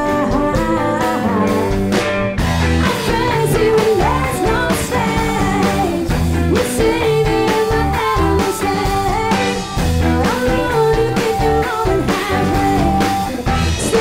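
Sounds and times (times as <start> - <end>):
woman singing: 0.0 - 1.9, 2.8 - 14.0
rock band playing: 0.0 - 14.0.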